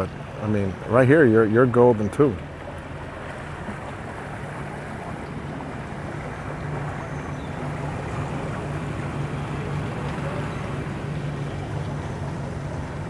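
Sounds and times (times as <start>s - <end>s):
outboard motor idling: 0.0s - 13.0s.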